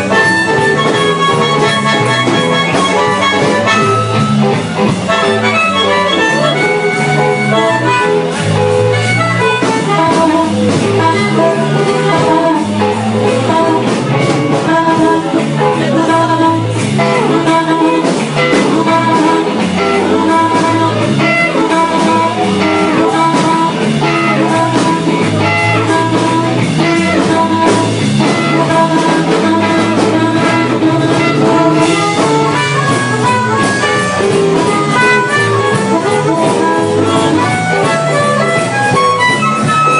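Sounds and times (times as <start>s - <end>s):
drum kit: 0.0s - 39.9s
guitar lines: 0.0s - 39.9s
walking bass line: 0.0s - 39.9s.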